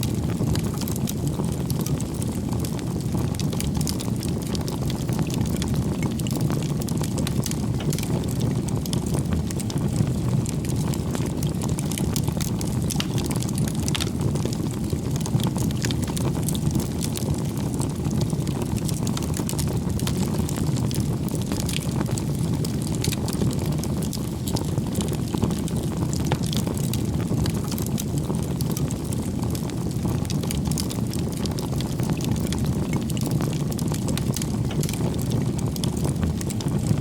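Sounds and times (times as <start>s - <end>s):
bonfire burning: 0.0s - 37.0s
firewood crackling and popping: 0.0s - 37.0s.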